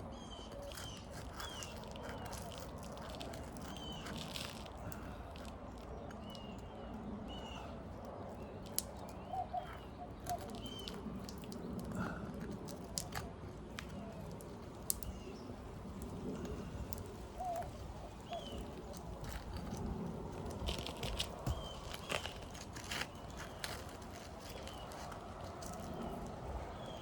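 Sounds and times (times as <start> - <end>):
birds chirping: 0.0 - 12.4, 13.7 - 27.0
shingle strips clicking and crackling: 0.4 - 7.0, 8.0 - 26.8.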